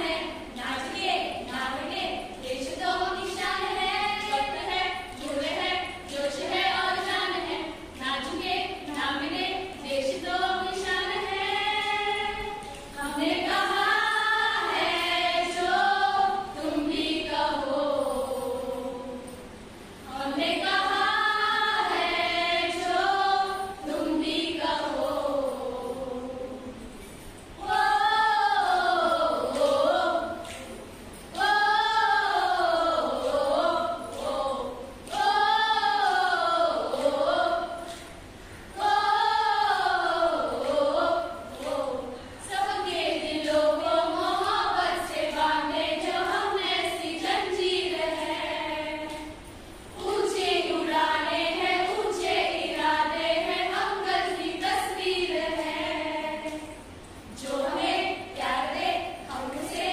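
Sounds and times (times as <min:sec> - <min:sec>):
women singing in unison: 0:00.0 - 0:59.9.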